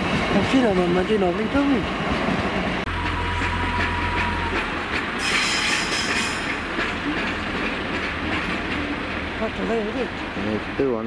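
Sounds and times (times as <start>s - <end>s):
freight train rolling past: 0.0s - 11.0s
wheels clicking over rail joints: 0.0s - 11.0s.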